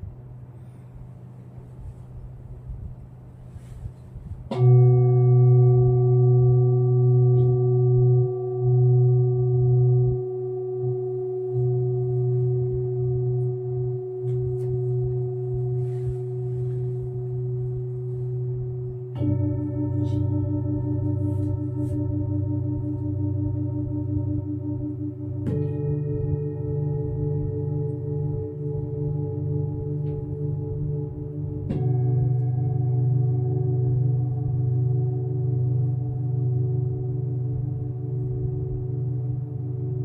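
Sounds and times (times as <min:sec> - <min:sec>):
singing bowl ringing: 0:04.4 - 0:40.0.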